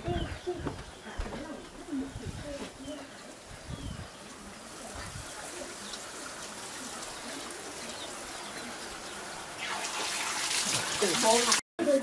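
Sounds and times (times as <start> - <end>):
water trickling: 2.0 - 12.0.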